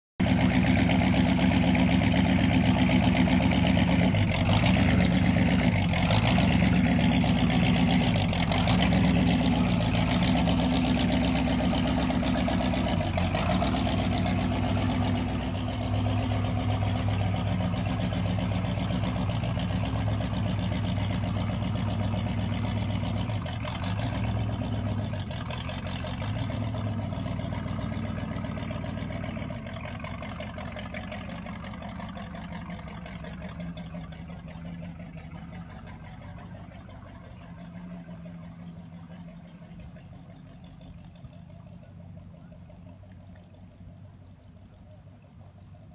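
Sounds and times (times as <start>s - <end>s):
boat engine running low: 0.2s - 45.9s.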